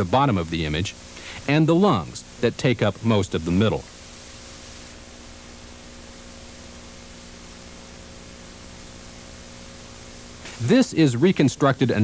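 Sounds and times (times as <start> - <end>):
faint low hum: 0.0 - 12.0
tape hiss: 0.0 - 12.0.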